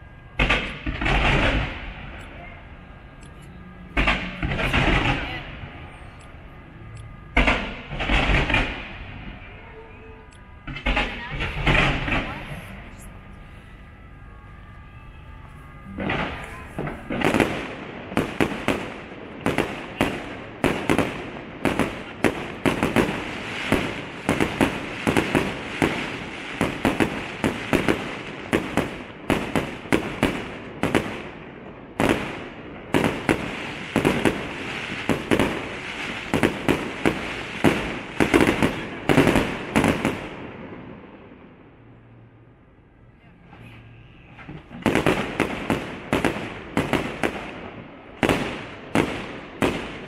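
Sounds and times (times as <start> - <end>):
fireworks bangs: 0.0 - 41.6, 43.4 - 50.0.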